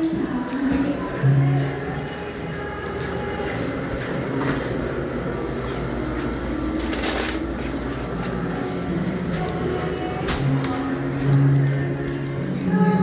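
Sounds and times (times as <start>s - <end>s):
steady low hum: 1.1s - 12.2s.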